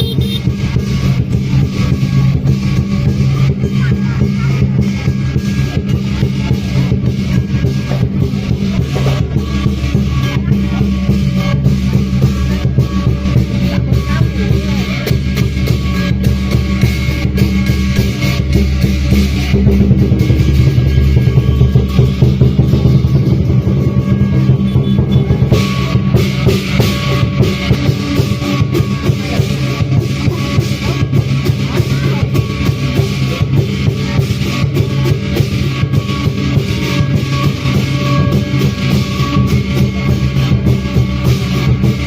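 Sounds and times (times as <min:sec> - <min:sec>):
cymbals and gongs: 0:00.0 - 0:42.0
drum beating: 0:00.0 - 0:42.0.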